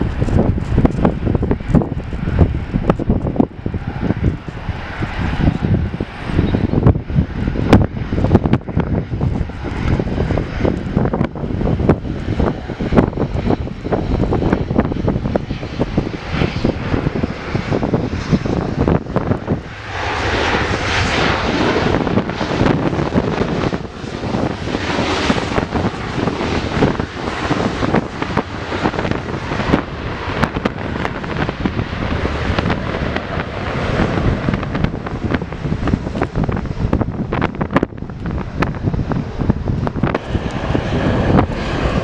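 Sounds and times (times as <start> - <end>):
jet engines on landing: 0.0 - 42.0
wind buffeting microphone: 0.0 - 42.0.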